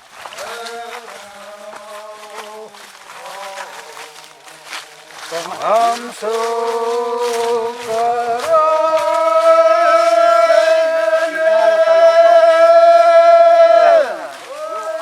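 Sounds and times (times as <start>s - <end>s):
man singing a long note: 0.4s - 15.0s.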